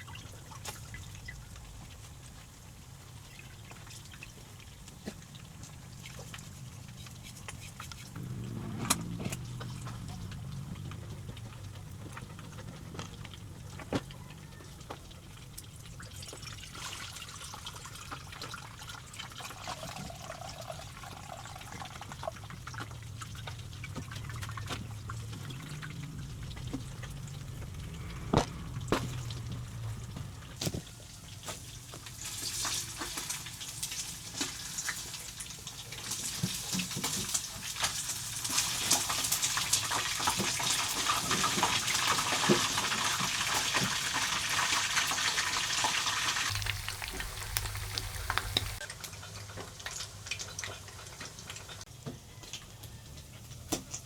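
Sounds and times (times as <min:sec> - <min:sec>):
water pouring and trickling: 0:00.0 - 0:51.8.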